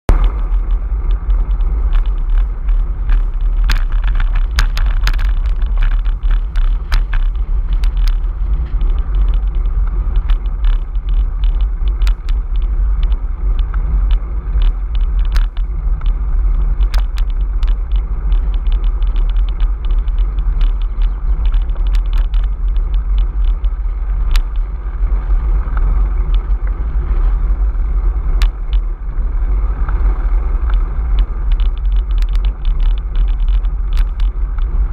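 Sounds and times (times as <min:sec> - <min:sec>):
crackles: 0:00.1 - 0:34.9
wind buffeting microphone: 0:00.1 - 0:34.9.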